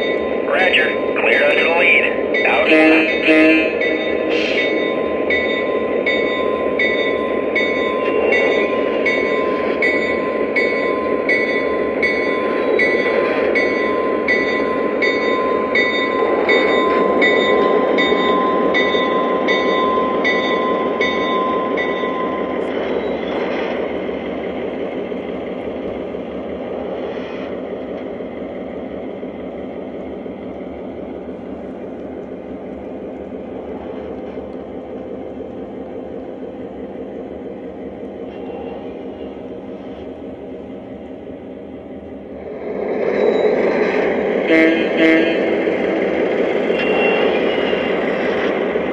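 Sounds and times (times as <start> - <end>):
model train diesel engine sound: 0.0 - 48.9.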